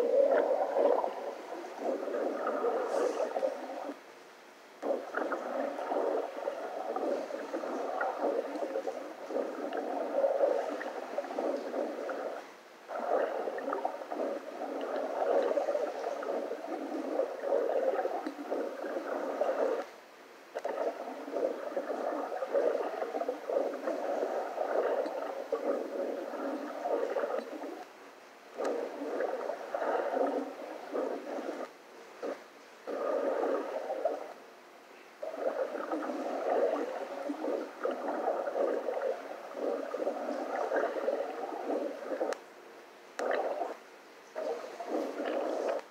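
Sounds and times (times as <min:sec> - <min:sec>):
rushing water underwater: 0:00.0 - 0:04.1, 0:04.8 - 0:45.9.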